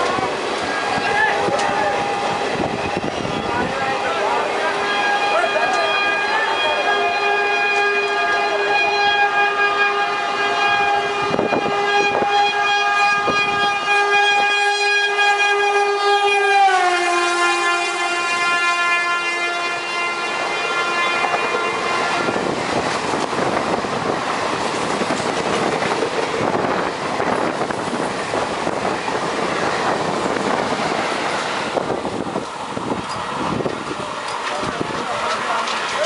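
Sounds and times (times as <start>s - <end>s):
locomotive horn blaring: 0.0s - 32.0s
train wheels on rails rushing past: 0.0s - 36.0s.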